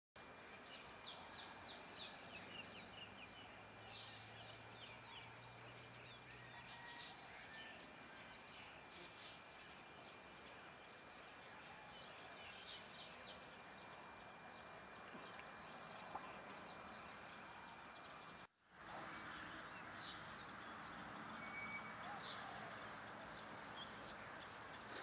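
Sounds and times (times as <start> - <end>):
faint outdoor ambience: 0.2 - 25.0.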